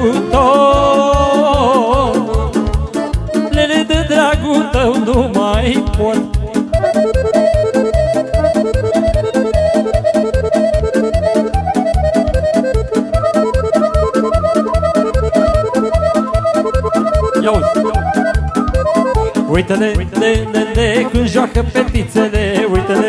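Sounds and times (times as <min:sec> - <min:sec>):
accordion party music: 0:00.0 - 0:23.0.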